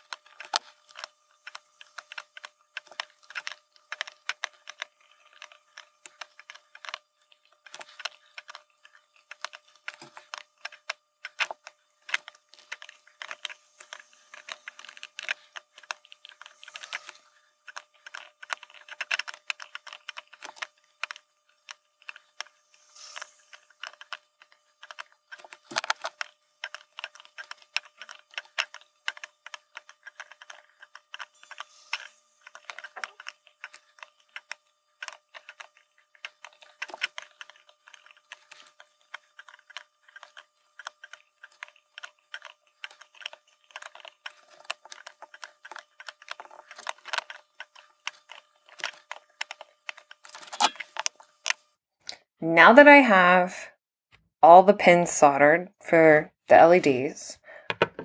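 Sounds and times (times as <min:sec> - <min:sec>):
faint steady whine: 0:00.0 - 0:53.8.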